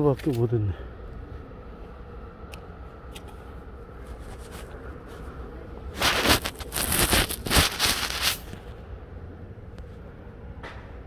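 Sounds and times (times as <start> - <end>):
low outdoor background: 0.0 - 11.0.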